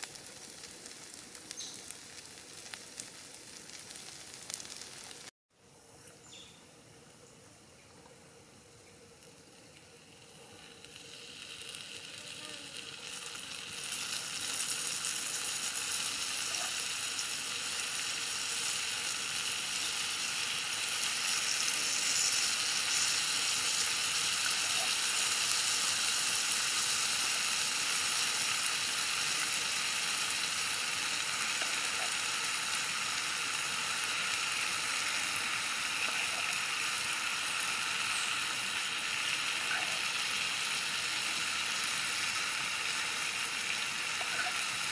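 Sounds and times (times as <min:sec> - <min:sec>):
fish sizzling on hot stone: 0:00.0 - 0:05.3, 0:08.4 - 0:44.9.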